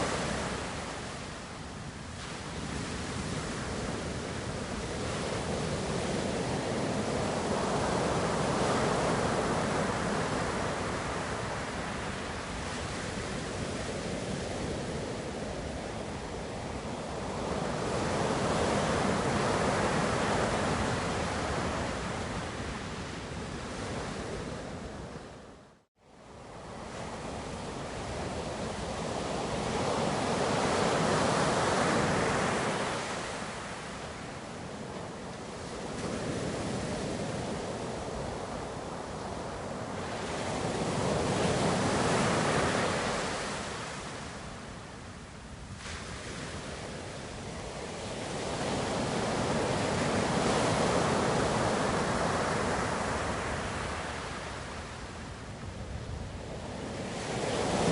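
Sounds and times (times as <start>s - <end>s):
ocean waves breaking on shore: 0.0s - 57.9s.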